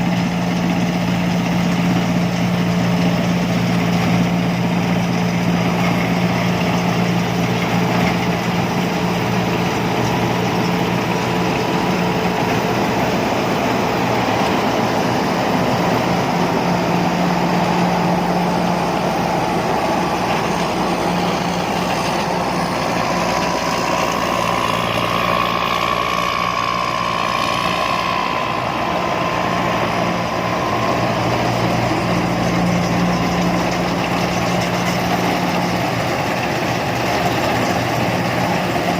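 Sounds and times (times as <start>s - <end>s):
diesel engine running: 0.0s - 38.9s
high mechanical whine: 0.0s - 38.9s.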